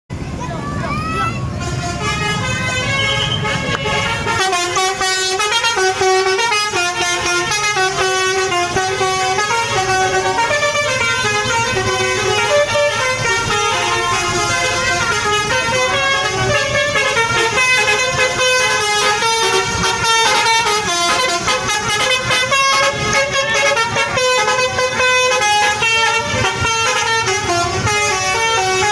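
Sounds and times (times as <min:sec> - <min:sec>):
musical multi-tone air horns: 0:01.5 - 0:28.9.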